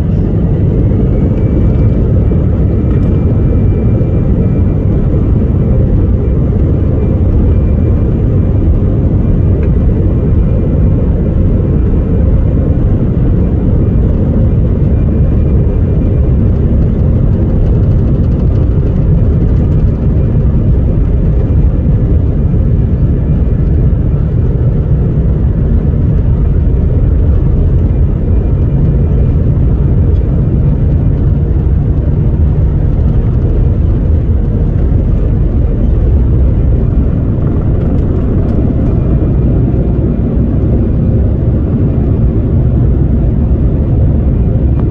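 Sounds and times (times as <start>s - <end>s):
jet cabin engine rumble: 0.0s - 44.9s.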